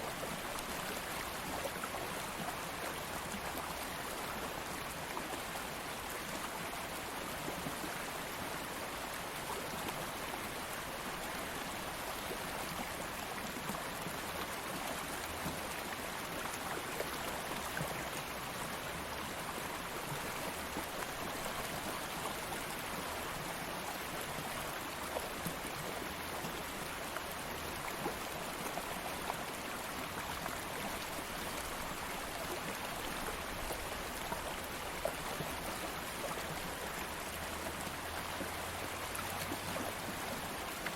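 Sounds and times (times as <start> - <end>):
stream of flowing water: 0.0 - 40.9.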